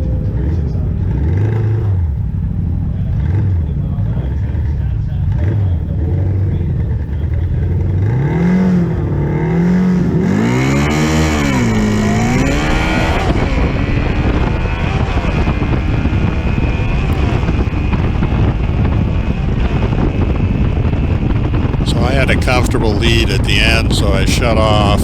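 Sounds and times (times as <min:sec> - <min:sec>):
motorcycle engine revving and accelerating: 0:00.0 - 0:25.0
wind noise over microphone: 0:00.0 - 0:25.0.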